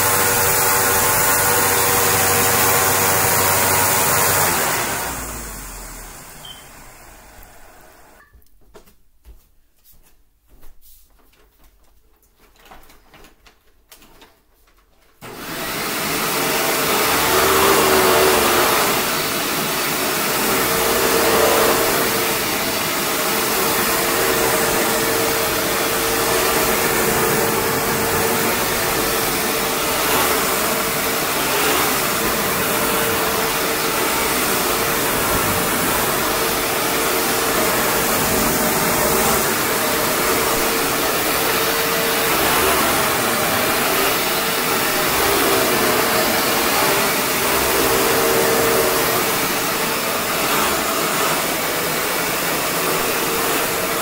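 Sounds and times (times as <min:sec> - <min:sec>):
vacuum cleaner running: 0:00.0 - 0:08.3, 0:15.2 - 0:54.0.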